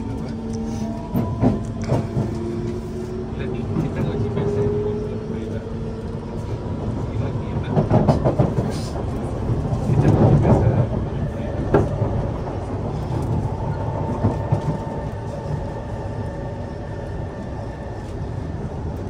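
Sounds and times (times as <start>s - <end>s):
rumble of train wheels on rail: 0.0s - 19.0s
train whine: 0.0s - 19.0s.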